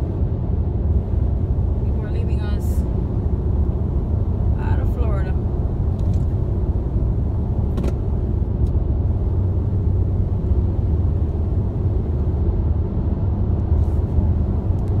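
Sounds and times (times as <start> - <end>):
car cabin road and engine rumble: 0.0 - 15.0.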